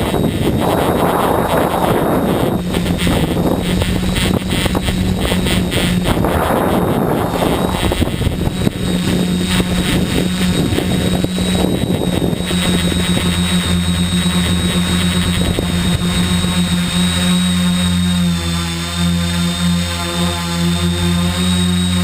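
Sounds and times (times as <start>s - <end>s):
wind noise on microphone: 0.0s - 18.4s
drone motors whining: 0.0s - 22.0s.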